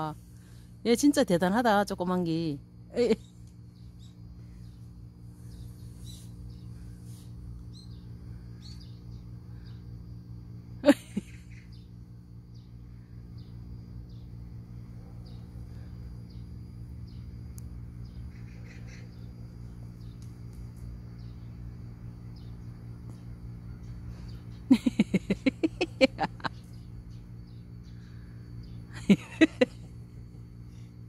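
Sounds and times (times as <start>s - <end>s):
small birds chirping: 0.0s - 10.1s, 11.0s - 31.0s
steady low hum: 0.0s - 31.0s.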